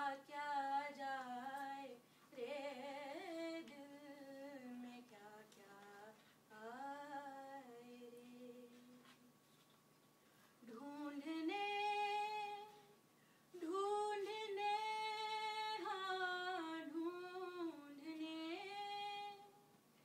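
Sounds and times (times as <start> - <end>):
woman singing unaccompanied: 0.0 - 9.3, 10.6 - 19.7.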